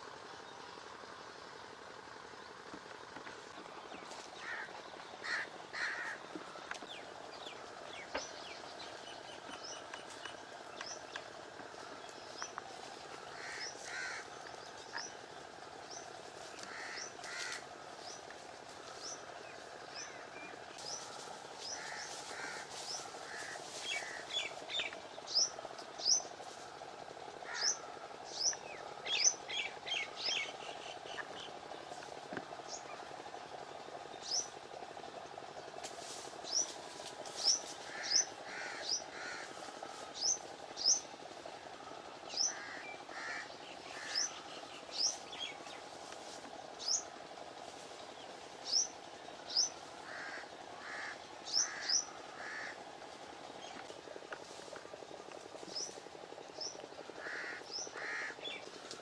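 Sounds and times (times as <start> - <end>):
birds calling and chirping: 0.0 - 59.0
steady background hum: 0.0 - 59.0.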